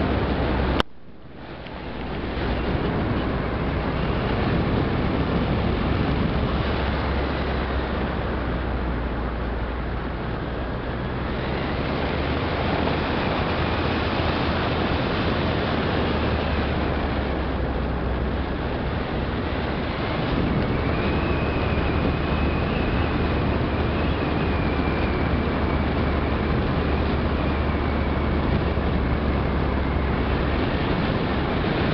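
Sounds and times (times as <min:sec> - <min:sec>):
car engine and road noise: 0:00.0 - 0:31.9
low hum: 0:00.0 - 0:31.9.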